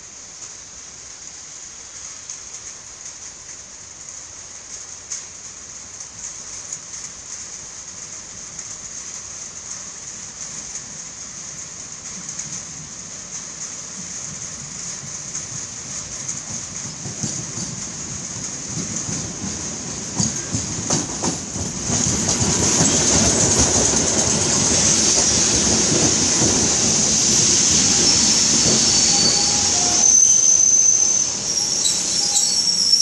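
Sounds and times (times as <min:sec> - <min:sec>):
steady rain hissing: 0:00.0 - 0:33.0
approaching electric train rumble: 0:01.8 - 0:33.0.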